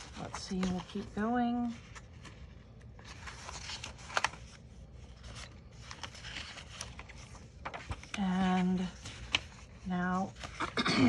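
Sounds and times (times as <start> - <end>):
paper pages rustling: 0.0 - 10.8.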